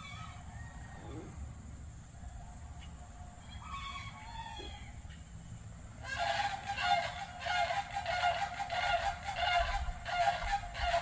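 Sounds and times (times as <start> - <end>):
wild turkeys calling: 0.0 - 1.4, 2.7 - 11.0
low wind rumble: 0.0 - 11.0.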